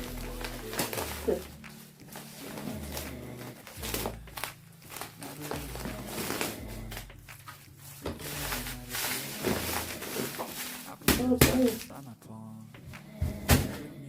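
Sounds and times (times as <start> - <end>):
pop music: 0.0 - 14.0.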